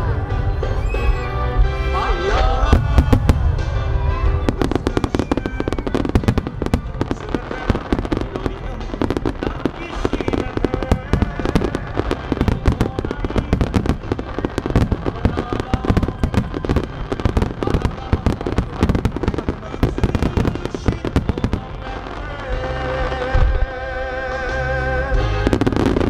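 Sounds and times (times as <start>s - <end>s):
fireworks bangs and crackles: 2.3s - 26.0s.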